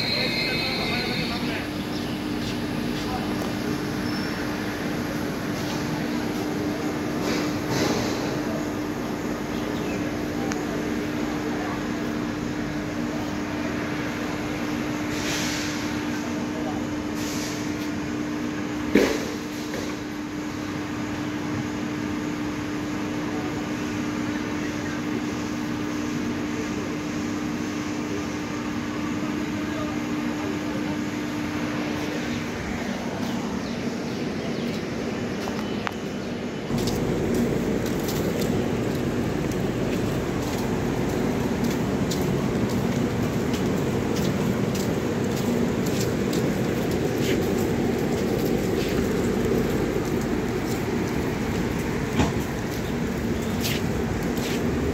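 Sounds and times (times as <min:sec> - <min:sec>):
train droning hum: 0:00.0 - 0:54.9
train rumble: 0:00.0 - 0:54.9.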